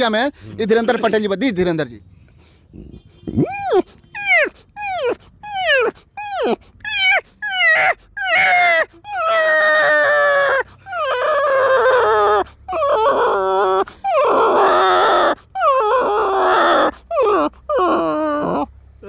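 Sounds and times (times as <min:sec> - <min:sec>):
man imitating puppy whimpers: 0:02.7 - 0:19.0.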